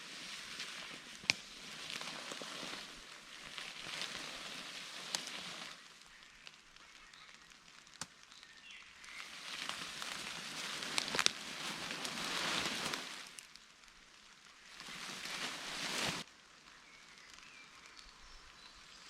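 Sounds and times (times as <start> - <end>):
rustling of leaves and undergrowth: 0.0 - 19.0.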